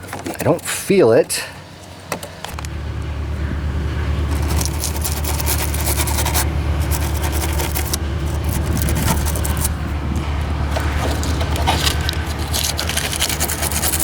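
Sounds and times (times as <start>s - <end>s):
hands scraping mower underside: 0.0s - 14.0s
steady low rumble: 2.5s - 14.0s.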